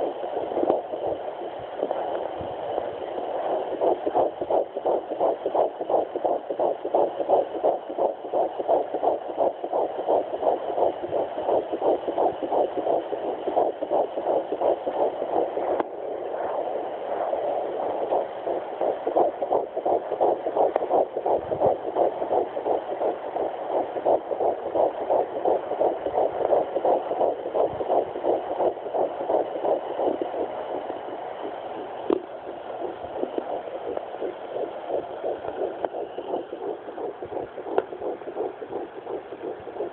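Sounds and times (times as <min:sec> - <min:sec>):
fetal heartbeat through doppler: 0:00.0 - 0:39.9.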